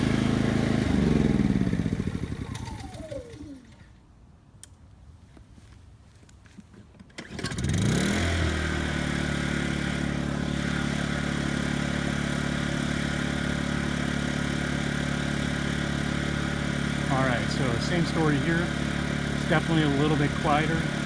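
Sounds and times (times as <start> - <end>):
generator engine running: 0.0 - 3.8, 7.3 - 21.0.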